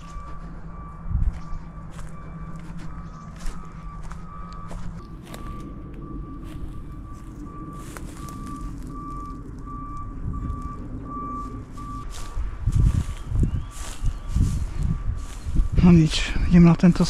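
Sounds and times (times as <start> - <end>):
heavy low thumps: 0.0 - 16.1
low engine hum: 0.0 - 17.0
reversing alarm beeping: 0.0 - 17.0.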